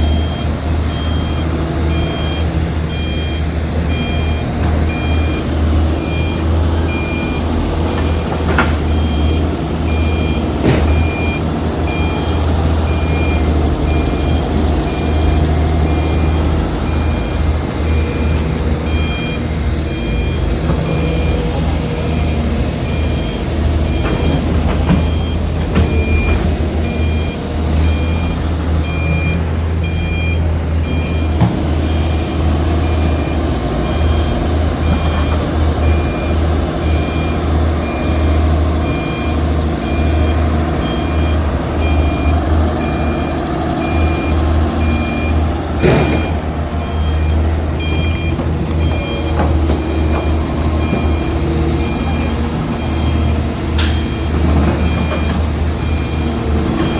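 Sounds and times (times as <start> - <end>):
large diesel engines droning: 0.0 - 56.9
reversing alarm beeping: 0.0 - 56.9.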